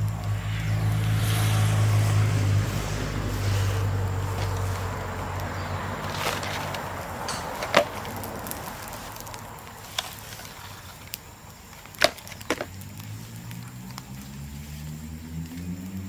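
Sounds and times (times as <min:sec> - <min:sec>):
bamboo bonfire crackling: 0:00.0 - 0:16.0
sharp cracks of bamboo splitting: 0:00.0 - 0:16.0.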